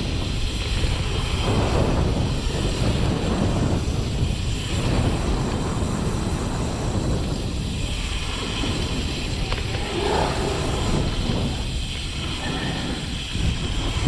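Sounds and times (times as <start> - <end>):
road noise: 0.0 - 14.0
wind rumble on microphone: 0.0 - 14.0.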